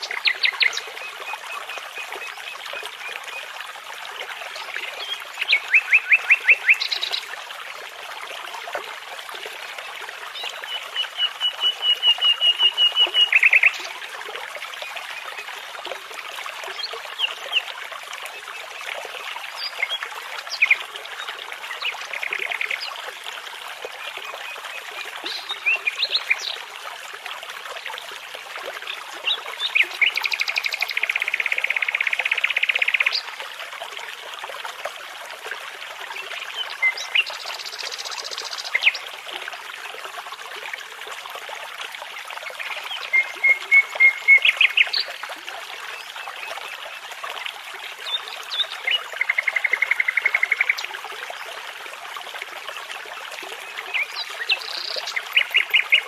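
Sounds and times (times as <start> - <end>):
brook running: 0.0 - 56.0.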